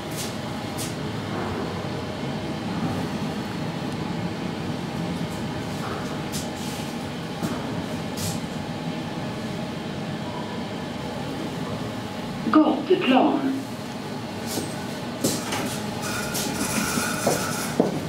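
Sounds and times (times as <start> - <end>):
elevator car rumbling: 0.0 - 18.0.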